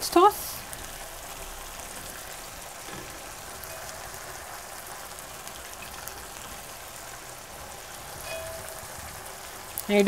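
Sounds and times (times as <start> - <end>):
sauce sizzling in a pan: 0.0 - 10.0.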